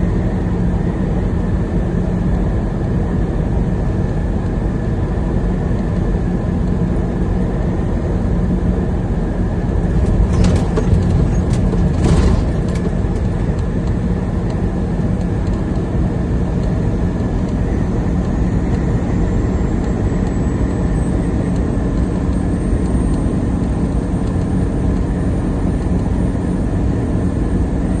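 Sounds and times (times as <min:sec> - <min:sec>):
truck engine and road noise: 0:00.0 - 0:28.0.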